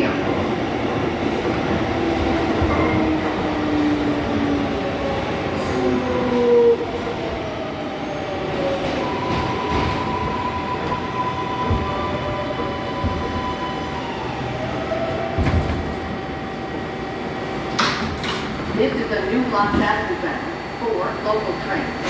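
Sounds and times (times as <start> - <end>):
rumble of rail and car: 0.0 - 22.0.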